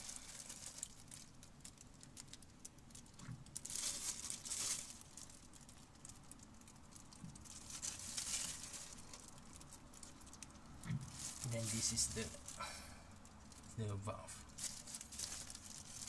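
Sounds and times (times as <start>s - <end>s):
gloved hand crinkling rustles: 0.0s - 16.0s.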